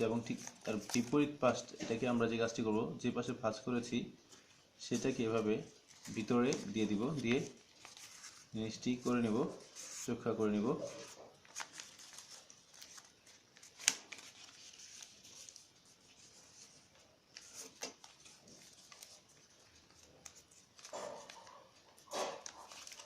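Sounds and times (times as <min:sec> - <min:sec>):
sharp paper crackle: 0:00.0 - 0:01.3, 0:04.9 - 0:23.0
paper crinkling and rustling: 0:00.0 - 0:02.2, 0:04.3 - 0:23.0.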